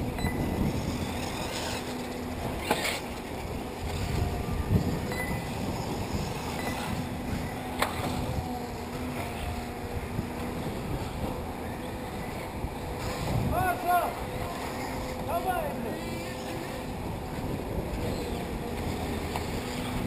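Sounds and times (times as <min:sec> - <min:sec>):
faint thin whines: 0:00.0 - 0:20.0.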